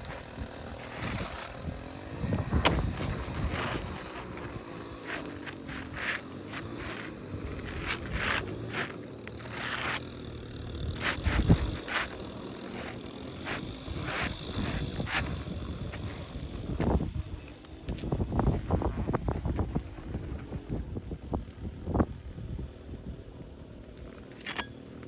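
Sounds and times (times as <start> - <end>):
roof shingles scraping and rustling: 0.0 - 20.3.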